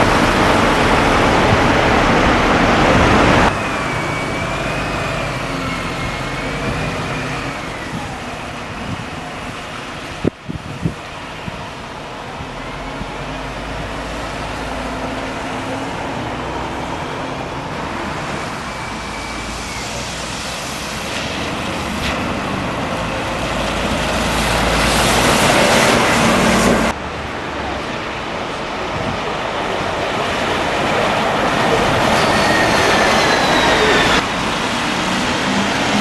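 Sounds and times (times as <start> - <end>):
diesel engine rumbling: 0.0 - 36.0.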